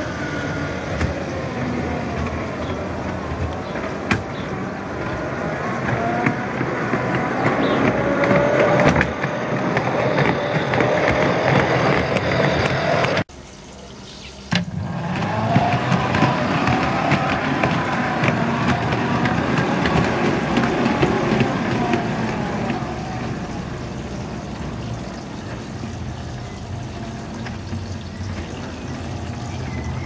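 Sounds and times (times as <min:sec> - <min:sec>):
model train wheels rolling on rails: 0:00.0 - 0:13.3, 0:14.5 - 0:30.0.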